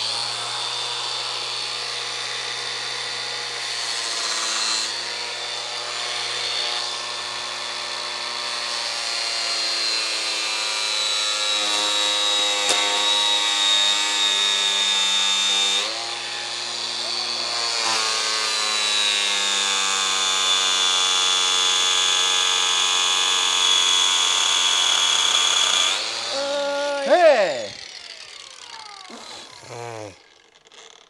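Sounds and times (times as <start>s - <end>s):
angle grinder whining on wood: 0.0s - 31.0s.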